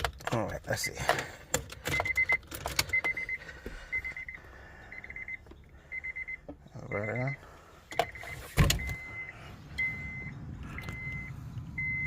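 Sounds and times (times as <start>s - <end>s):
car warning chime beeping: 0.4s - 12.0s.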